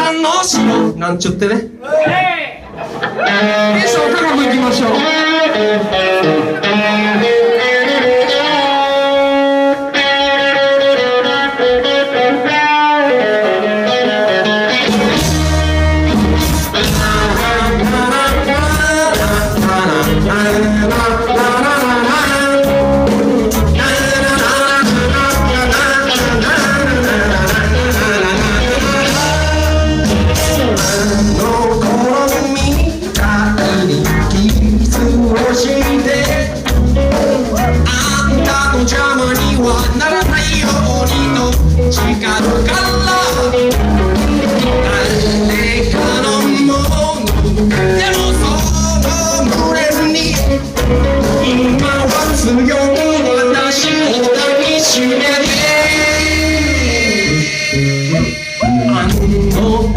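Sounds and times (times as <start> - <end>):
live band playing: 0.0 - 59.9.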